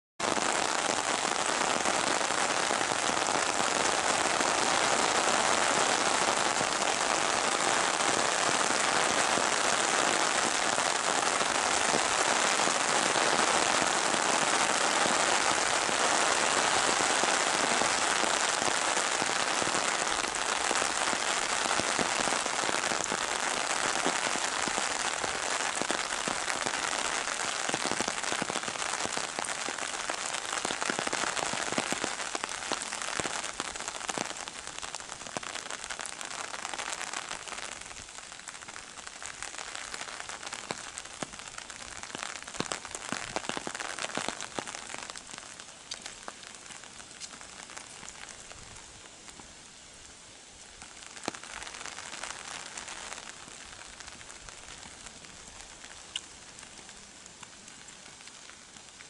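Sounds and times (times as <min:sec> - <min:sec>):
rain pattering on an umbrella: 0:00.2 - 0:59.0.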